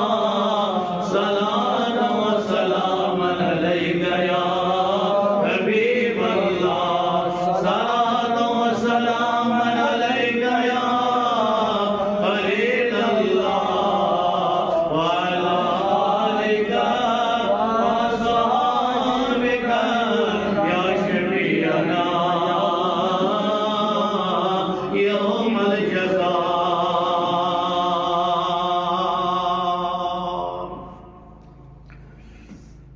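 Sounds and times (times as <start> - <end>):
man chanting melodically: 0.0 - 31.0.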